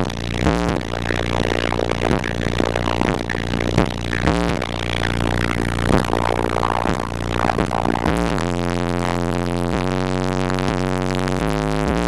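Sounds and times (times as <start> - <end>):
bass-heavy music from subwoofers: 0.0 - 12.0
rattling buzz: 0.0 - 12.0.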